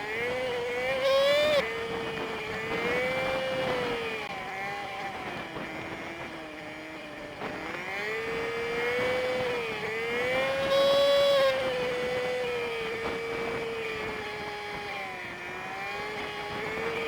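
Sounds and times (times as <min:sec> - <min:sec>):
sped-up motorcycle engine whine: 0:00.0 - 0:17.0.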